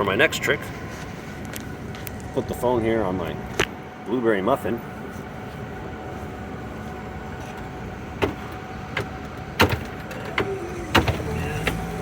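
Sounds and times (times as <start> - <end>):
city traffic hum: 0.0 - 12.0.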